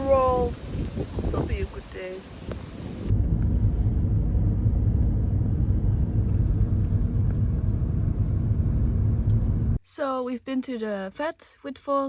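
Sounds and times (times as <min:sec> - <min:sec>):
vehicle engine and road rumble: 0:00.0 - 0:09.8.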